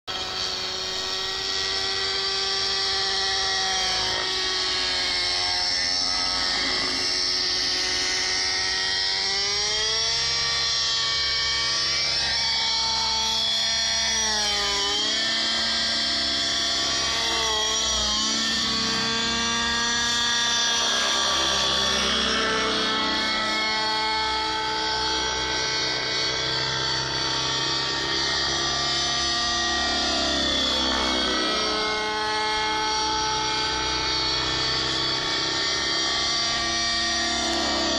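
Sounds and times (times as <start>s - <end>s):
model helicopter engine drone: 0.0s - 37.9s.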